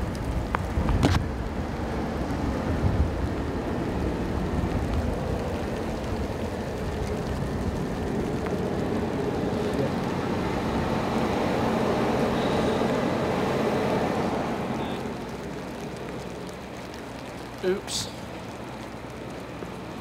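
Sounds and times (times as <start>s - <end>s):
low mechanical rumble: 0.0s - 20.0s
rain hissing: 0.0s - 20.0s.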